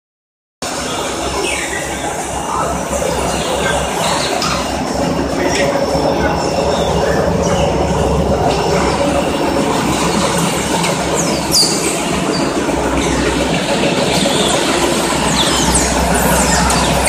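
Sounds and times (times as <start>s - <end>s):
machinery droning: 0.6s - 17.0s
high machine squeals: 0.7s - 17.0s.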